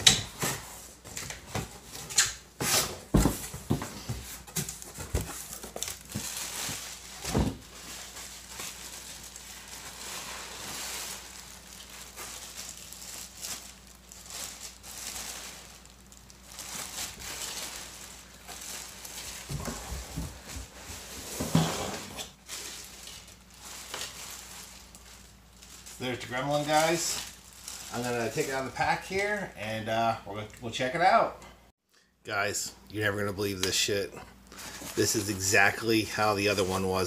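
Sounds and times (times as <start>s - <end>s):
plastic and bubble wrap crinkling: 0.0s - 29.8s, 33.8s - 37.0s.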